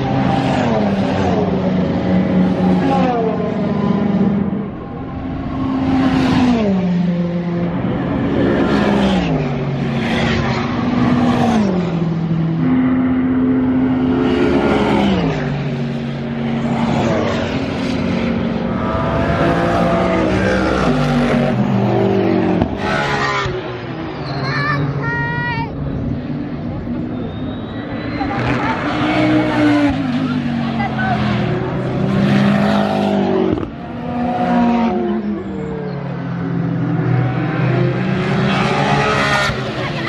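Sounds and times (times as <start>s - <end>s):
race cars passing at speed: 0.0s - 40.0s.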